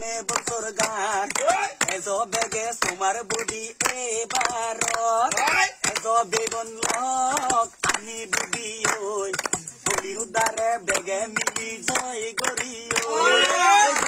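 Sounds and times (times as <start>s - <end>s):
man singing: 0.0s - 14.0s
sharp rhythmic taps: 0.0s - 14.0s.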